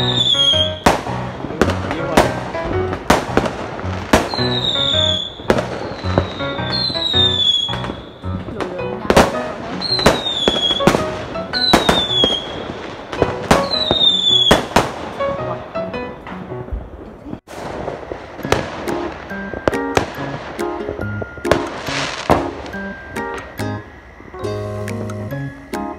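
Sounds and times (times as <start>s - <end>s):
firework whistles: 0.0s - 2.4s, 3.1s - 8.5s, 9.1s - 15.6s, 17.5s - 25.9s
firework bangs: 0.0s - 25.1s
background music: 0.0s - 25.9s.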